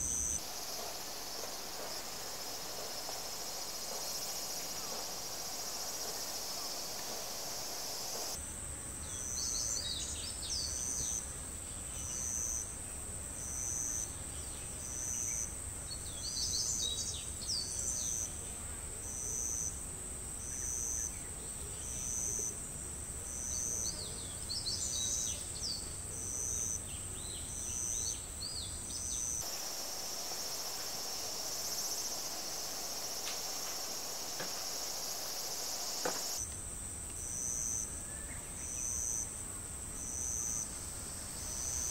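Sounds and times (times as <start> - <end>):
insects droning: 0.0 - 41.9
outdoor hiss: 0.0 - 41.9.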